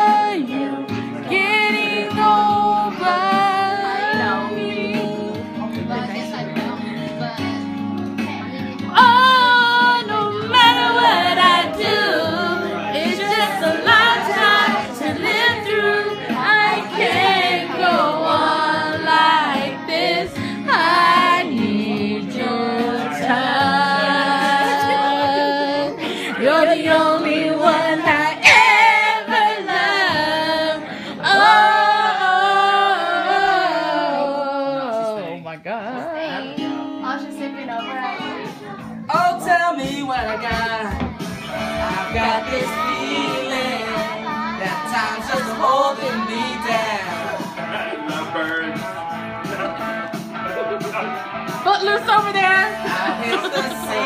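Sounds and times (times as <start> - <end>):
backing track music: 0.0 - 54.0
voices singing karaoke: 0.0 - 54.0.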